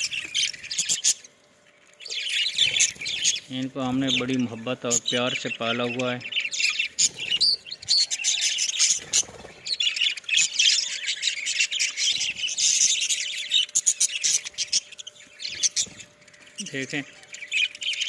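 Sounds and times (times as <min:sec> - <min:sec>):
flock of budgerigars chirping: 0:00.0 - 0:18.0.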